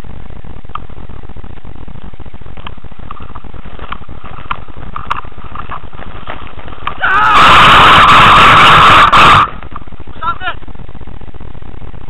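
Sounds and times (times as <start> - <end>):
loud distorted rush: 0.0 - 12.0
low steady rumbling: 0.0 - 12.0.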